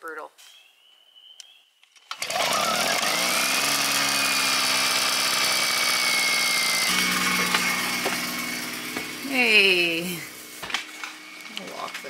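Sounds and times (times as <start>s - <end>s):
generator engine starting and running: 2.1s - 12.0s.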